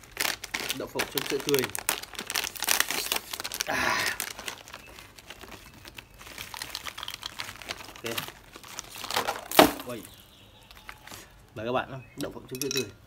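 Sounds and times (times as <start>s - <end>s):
plastic packet crinkling: 0.0s - 11.3s
plastic packet ripping: 0.0s - 11.3s.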